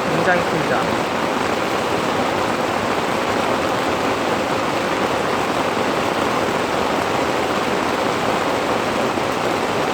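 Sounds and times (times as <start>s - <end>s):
heavy rain downpour: 0.0s - 9.9s.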